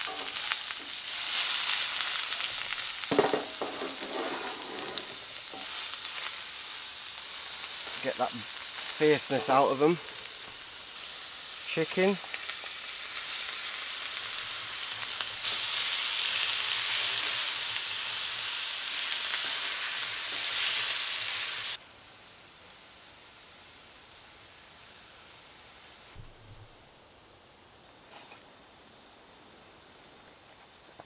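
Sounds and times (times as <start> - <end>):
chicken sizzling in a skillet: 0.0 - 26.2.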